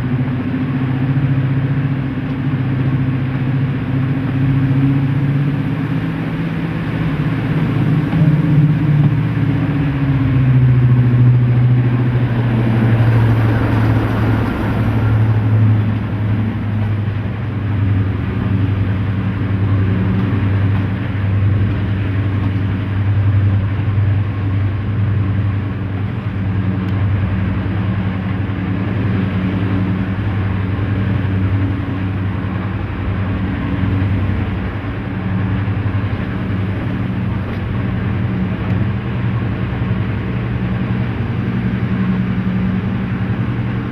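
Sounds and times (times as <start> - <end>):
diesel locomotive engine running hard: 0.0 - 43.9.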